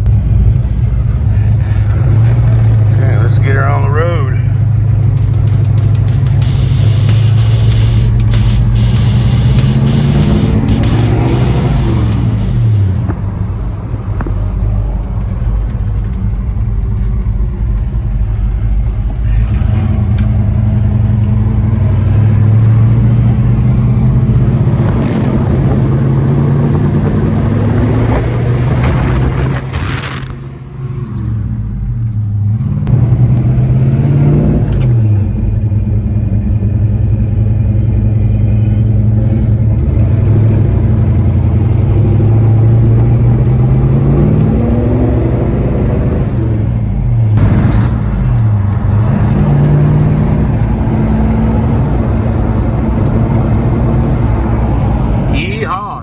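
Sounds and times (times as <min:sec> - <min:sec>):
car engine accelerating: 0:00.0 - 0:55.4.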